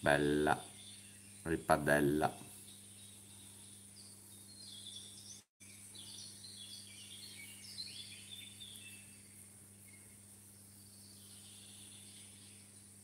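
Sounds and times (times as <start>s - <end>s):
birdsong of high chirps: 0.0s - 13.0s.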